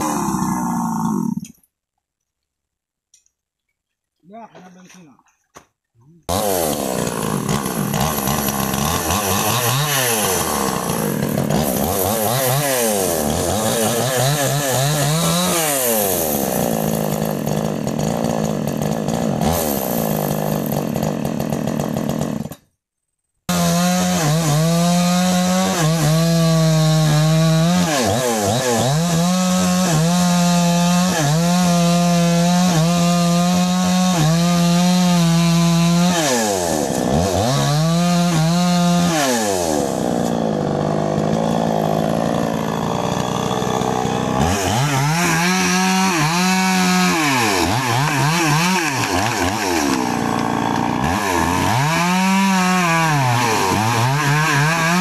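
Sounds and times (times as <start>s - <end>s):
chainsaw revving: 0.0s - 1.6s, 6.2s - 22.7s, 23.5s - 55.0s
chainsaw cutting wood: 0.0s - 1.7s, 5.6s - 22.8s, 23.5s - 55.0s.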